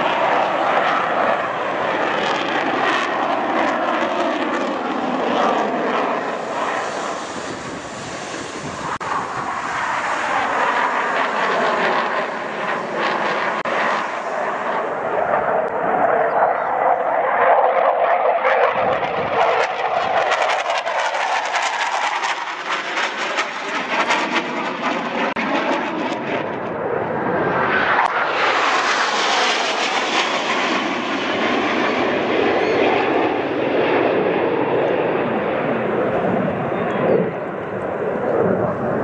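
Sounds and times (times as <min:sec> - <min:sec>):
jet engine roar: 0:00.0 - 0:39.0.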